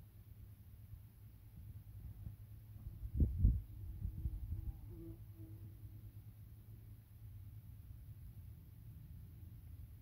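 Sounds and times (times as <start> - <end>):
faint low rumble: 0.0 - 10.0.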